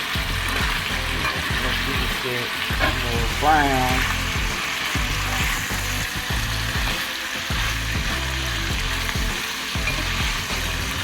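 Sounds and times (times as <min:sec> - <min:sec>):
sausages sizzling in a pan: 0:00.0 - 0:11.0.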